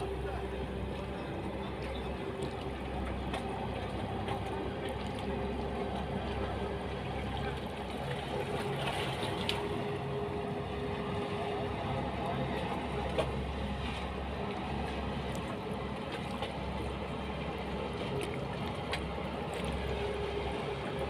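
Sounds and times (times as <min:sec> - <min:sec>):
boat engine humming: 0:00.0 - 0:21.0
water sloshing against hull: 0:00.0 - 0:21.0.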